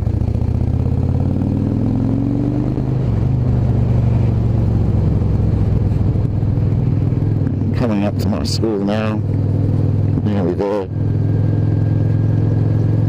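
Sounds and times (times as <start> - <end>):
motorcycle engine pulling away: 0.0 - 8.6, 10.9 - 13.0.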